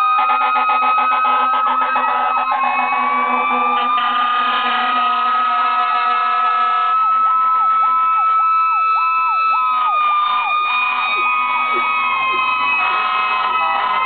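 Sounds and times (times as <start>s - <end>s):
siren sweeping up and down: 0.0s - 14.0s
steady high siren tone: 0.0s - 14.0s.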